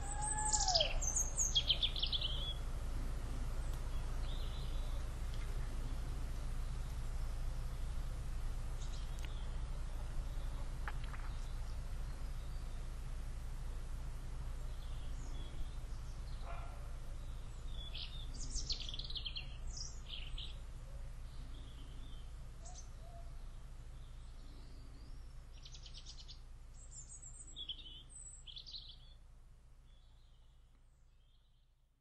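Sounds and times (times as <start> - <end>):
birds chirping: 0.0 - 2.7, 3.5 - 13.0, 14.5 - 29.2
steady low rumble: 0.0 - 31.0.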